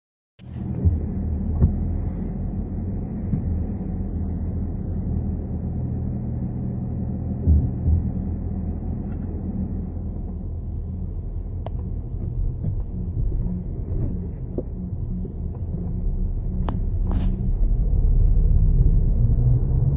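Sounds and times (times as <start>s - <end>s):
car droning rumble: 0.4s - 19.9s.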